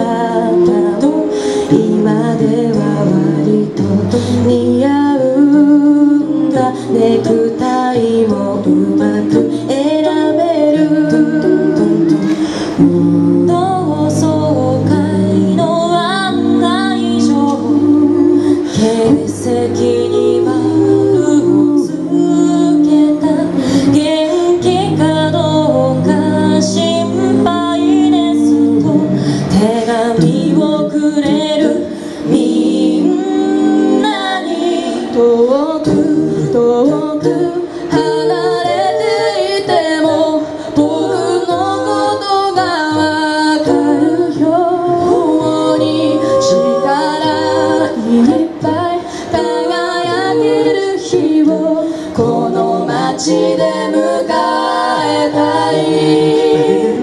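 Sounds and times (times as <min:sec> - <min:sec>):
a cappella vocal harmony: 0:00.0 - 0:57.0.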